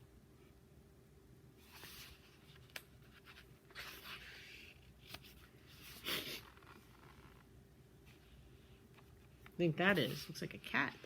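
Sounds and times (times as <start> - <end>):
book pages rustling: 1.6 - 11.0.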